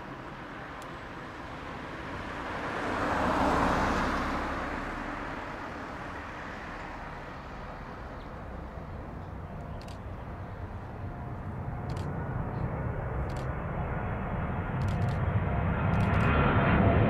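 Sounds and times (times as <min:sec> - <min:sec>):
distant traffic rumble: 0:00.0 - 0:17.0
jet noise: 0:00.0 - 0:17.0
road vehicle passing: 0:00.0 - 0:17.0.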